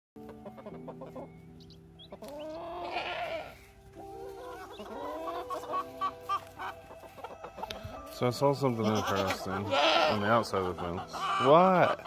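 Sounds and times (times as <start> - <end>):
chickens clucking: 0.2 - 12.0.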